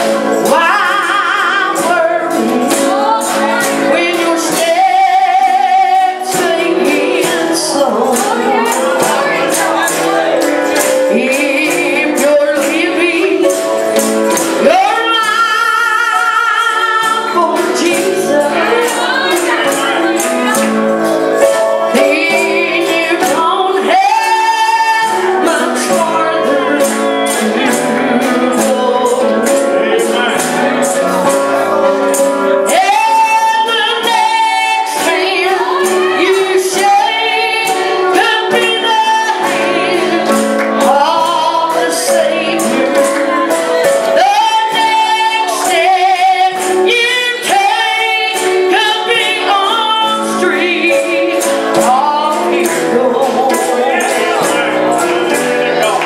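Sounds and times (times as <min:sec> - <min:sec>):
gospel singing: 0:00.0 - 0:56.0
held instrumental chords: 0:00.0 - 0:56.0.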